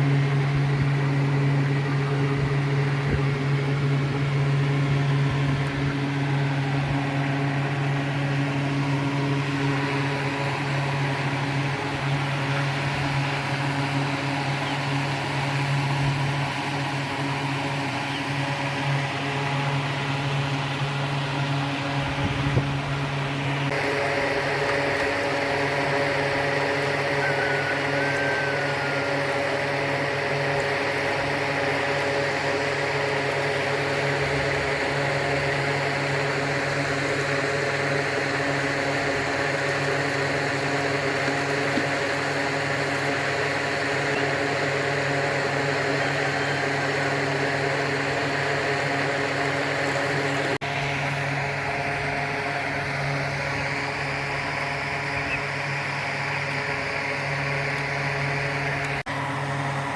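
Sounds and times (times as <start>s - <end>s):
machine hum with held tones: 0.0s - 59.9s.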